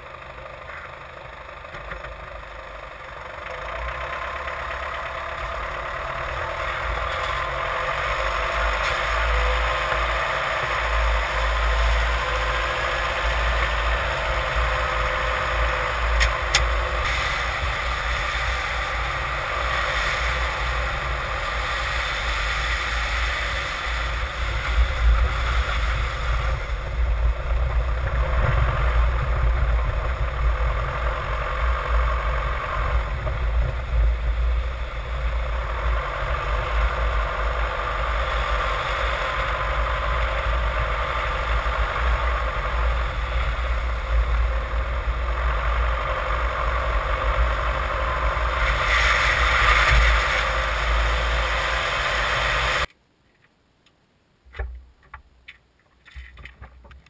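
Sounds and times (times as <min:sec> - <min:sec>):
tyre and driveline rumble: 0:00.0 - 0:52.9
hiss of air and road: 0:03.0 - 0:52.9.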